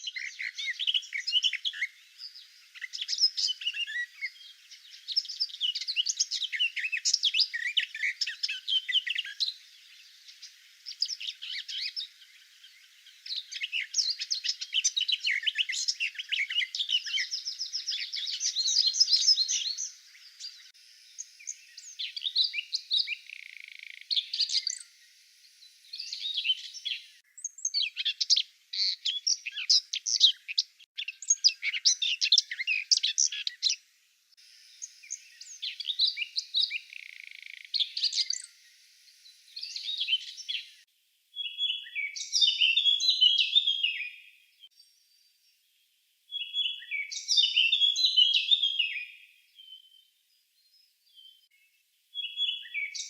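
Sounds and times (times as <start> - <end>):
songbirds warbling: 0.0 - 44.8, 46.4 - 50.1, 52.2 - 53.0.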